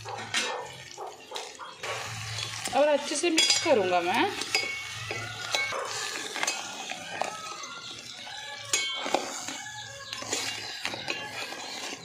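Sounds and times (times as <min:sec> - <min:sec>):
metal ladle scraping steel pot: 0:00.1 - 0:12.0.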